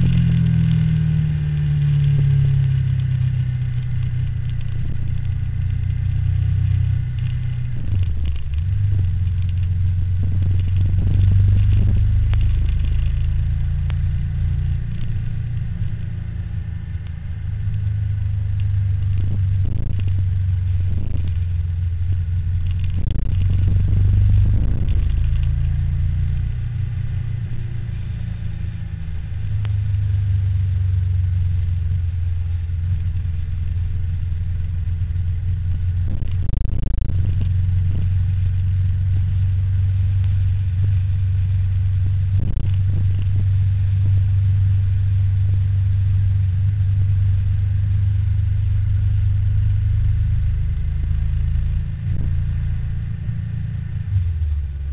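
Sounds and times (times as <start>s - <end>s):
low rumble of road riding: 0.0s - 54.9s
vehicle noise: 0.0s - 54.9s.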